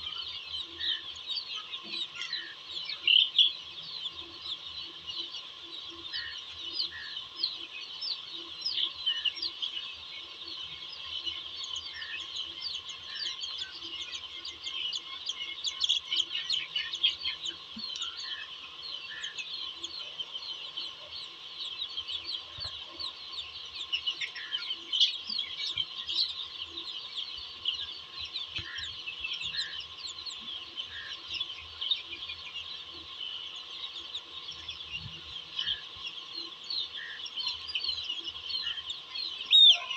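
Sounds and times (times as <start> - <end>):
chickens clucking: 0.0 - 39.9
chicks peeping: 0.0 - 39.9.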